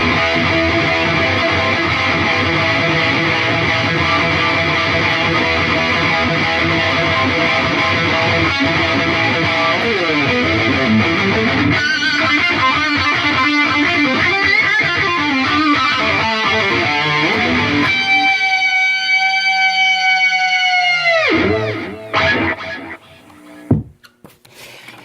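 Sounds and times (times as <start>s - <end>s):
electric guitar playing: 0.0s - 23.7s.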